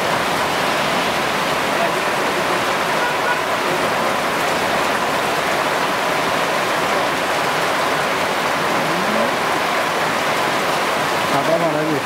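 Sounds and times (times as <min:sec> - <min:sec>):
heavy rain on a street: 0:00.0 - 0:12.0.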